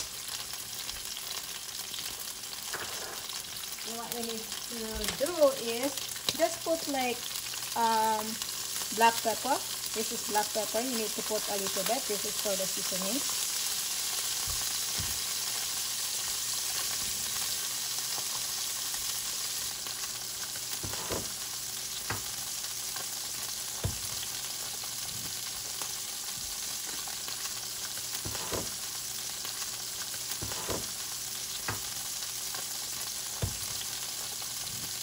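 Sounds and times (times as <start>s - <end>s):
fish sizzling in a frying pan: 0.0s - 35.0s.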